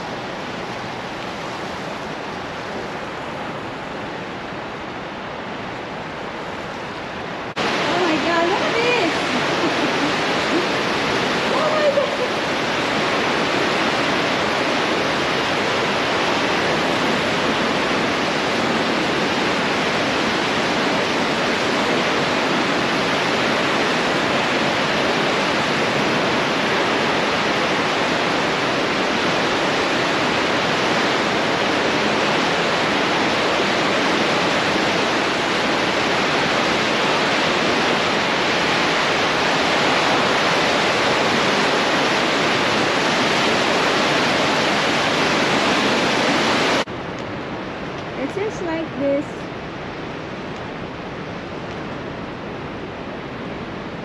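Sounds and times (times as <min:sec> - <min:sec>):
river water roaring: 0:00.0 - 0:54.0.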